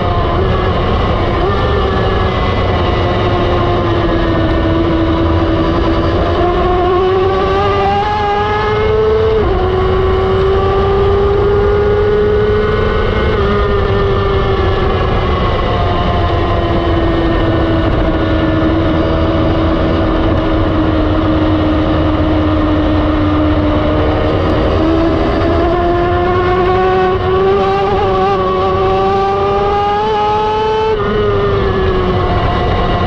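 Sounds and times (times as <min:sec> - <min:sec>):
motorcycle engine at speed: 0:00.0 - 0:33.0
wind rushing on microphone: 0:00.0 - 0:33.0.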